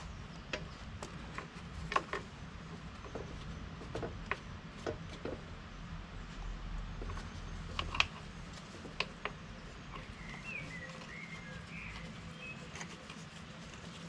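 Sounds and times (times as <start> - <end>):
small bird chirping: 0.0 - 4.8, 6.4 - 14.0.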